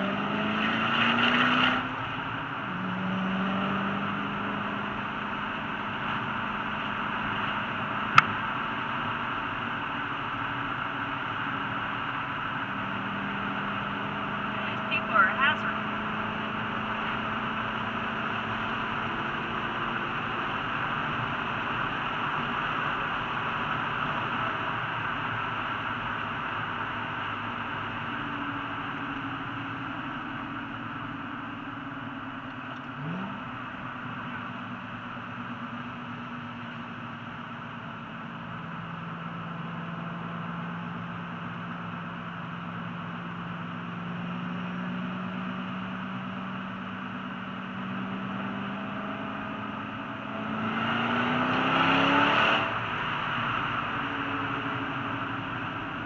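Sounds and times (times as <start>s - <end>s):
car engine drone from inside: 0.0s - 56.0s
road noise: 0.0s - 56.0s.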